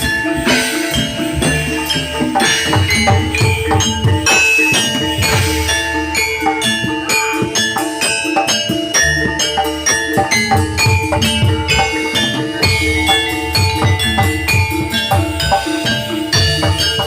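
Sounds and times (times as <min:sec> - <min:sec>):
drums: 0:00.0 - 0:17.0
jingling percussion: 0:00.0 - 0:17.0
metallophones playing struck notes: 0:00.0 - 0:17.0.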